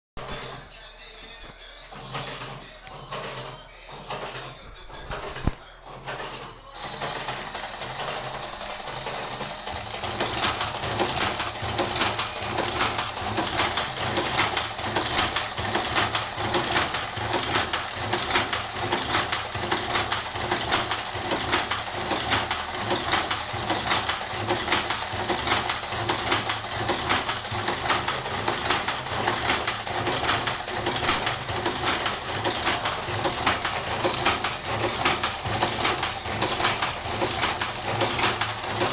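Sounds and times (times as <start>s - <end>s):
machine mechanical clatter: 0.2s - 0.6s, 1.9s - 38.9s.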